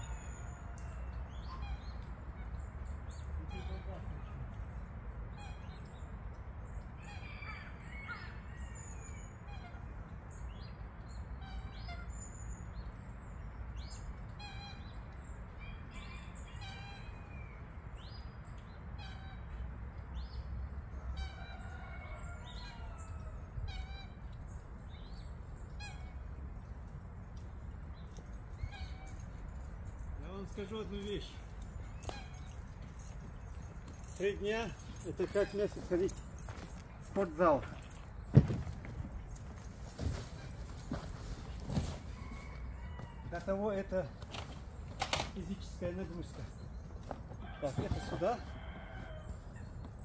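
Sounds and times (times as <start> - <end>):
birds calling and chirping: 0.0 - 50.0.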